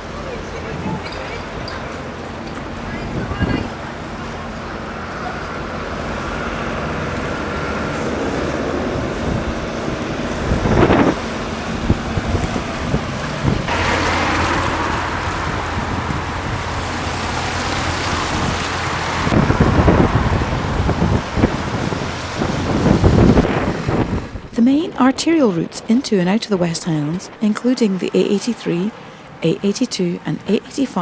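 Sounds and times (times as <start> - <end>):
gale wind buffeting microphone: 0.0 - 1.6, 2.7 - 3.8, 5.8 - 29.6.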